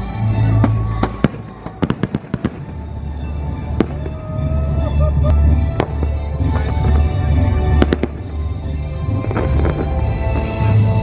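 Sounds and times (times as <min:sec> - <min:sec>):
music soundtrack: 0:00.0 - 0:11.0
fireworks bursting with bangs: 0:00.5 - 0:11.0.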